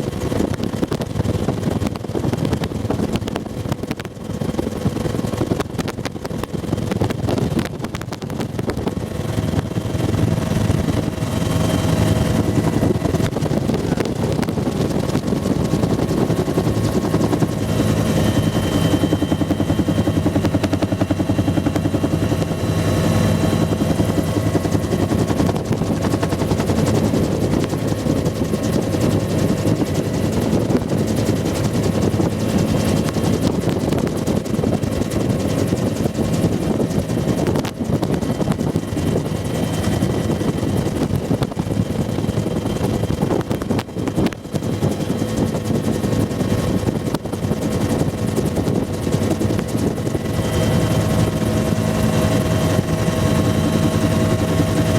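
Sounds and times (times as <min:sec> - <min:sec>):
engine whine: 0:00.0 - 0:54.9
helicopter rotor beating: 0:00.0 - 0:54.9
wind rushing: 0:06.0 - 0:54.9.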